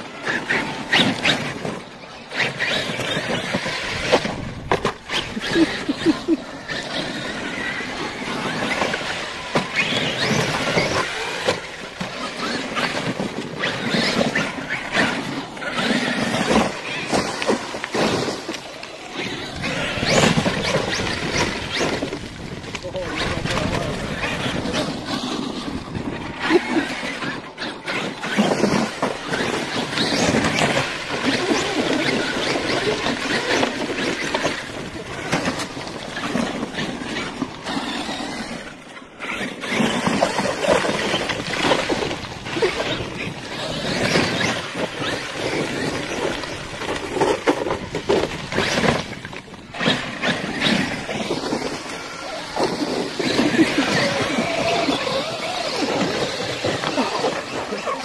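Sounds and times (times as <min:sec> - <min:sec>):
rc trucks driving in sand: 0:00.0 - 0:58.0.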